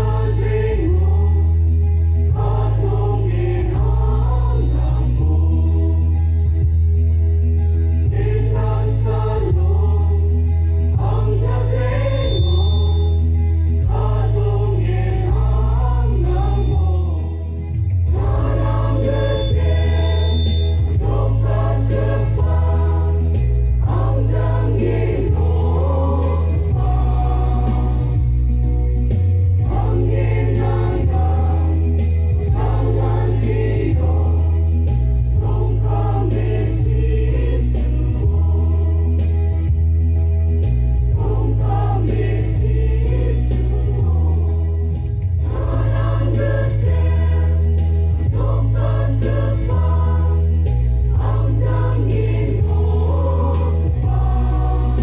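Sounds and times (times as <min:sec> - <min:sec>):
women's choir singing a hymn: 0:00.0 - 0:01.6, 0:02.3 - 0:06.2, 0:08.0 - 0:10.3, 0:10.9 - 0:13.2, 0:13.8 - 0:17.4, 0:18.1 - 0:28.4, 0:29.6 - 0:39.2, 0:41.1 - 0:55.0
deep bass accompaniment: 0:00.0 - 0:55.0.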